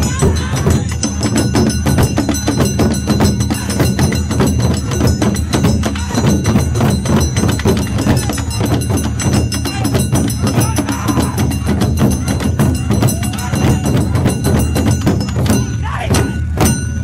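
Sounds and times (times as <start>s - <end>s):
steady high ringing tone: 0.0s - 17.0s
taiko drums beaten hard: 0.0s - 17.0s.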